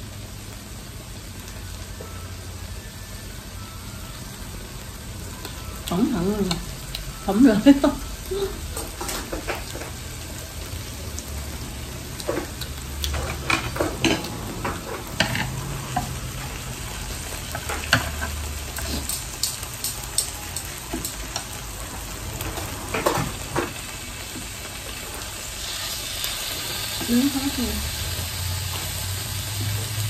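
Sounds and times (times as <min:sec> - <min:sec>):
meat sizzling on grill plate: 0:00.0 - 0:30.0.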